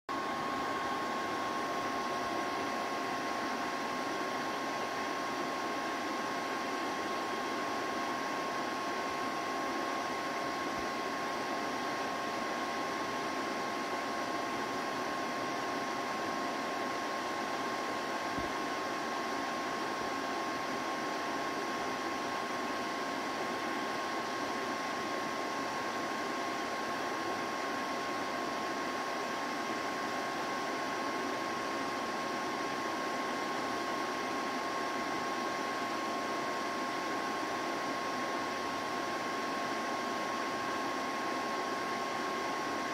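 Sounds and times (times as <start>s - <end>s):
cooling fan whirring: 0.1s - 42.9s.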